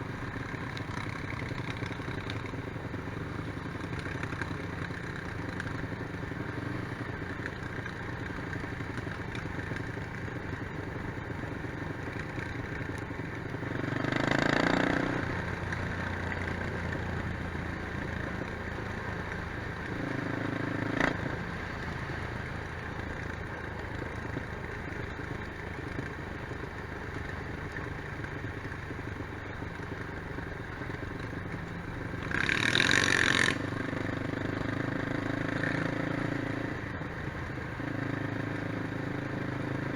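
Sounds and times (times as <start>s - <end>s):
quad bike engines running: 0.0s - 39.9s.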